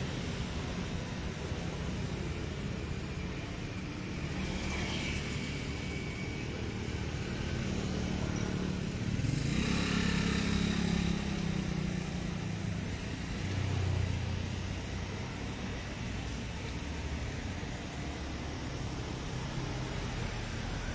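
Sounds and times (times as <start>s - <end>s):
vehicles passing: 0.0s - 20.9s.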